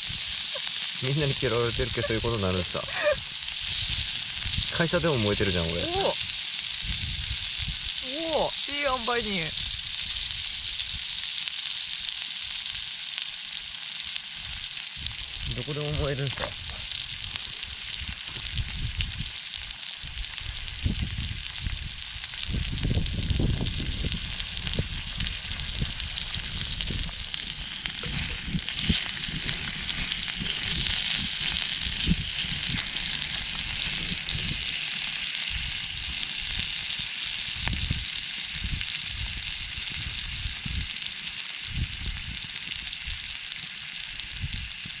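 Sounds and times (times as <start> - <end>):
campfire pops and crackles: 0.0 - 45.0
meat sizzling on a griddle: 0.0 - 45.0.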